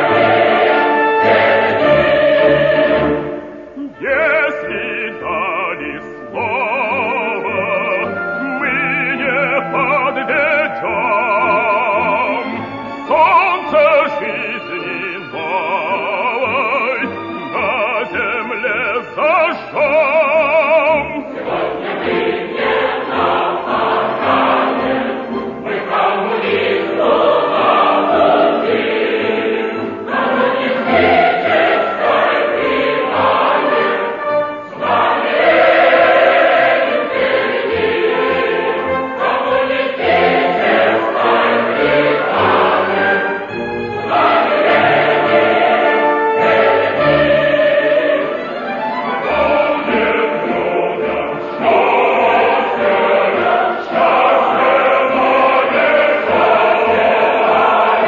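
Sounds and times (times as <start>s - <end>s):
choir singing a march song: 0.0s - 58.0s
orchestral accompaniment: 0.0s - 58.0s.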